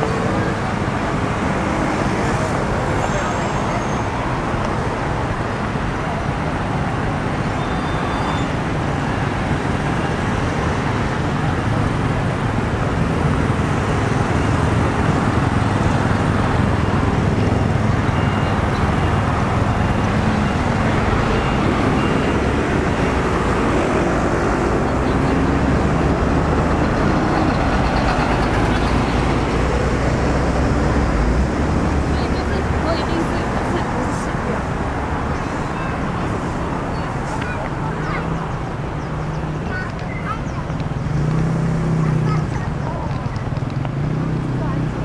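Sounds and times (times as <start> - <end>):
street traffic rumble: 0.0 - 45.0.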